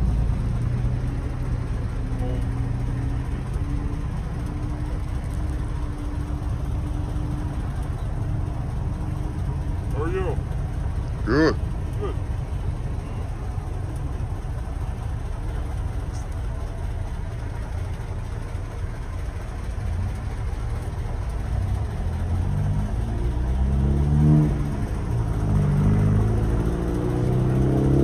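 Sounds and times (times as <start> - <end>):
road rumble: 0.0 - 28.0
vehicle engine: 0.0 - 28.0.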